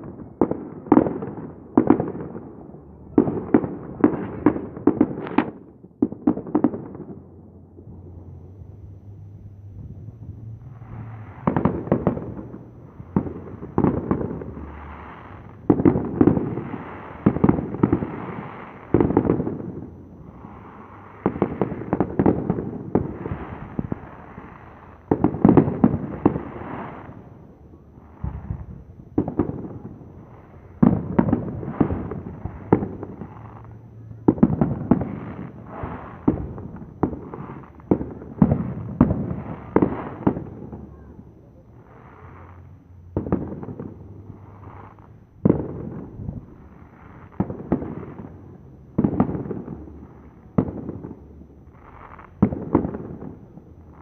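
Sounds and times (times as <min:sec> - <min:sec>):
firework crackle: 0:00.0 - 0:54.0.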